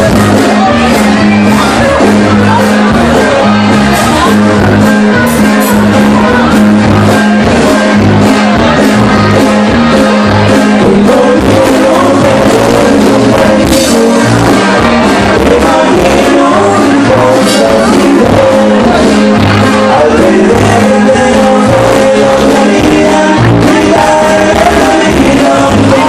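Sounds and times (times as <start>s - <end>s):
bass guitar: 0.0s - 26.0s
drums: 0.0s - 26.0s
electric guitars: 0.0s - 26.0s
person singing: 0.0s - 26.0s.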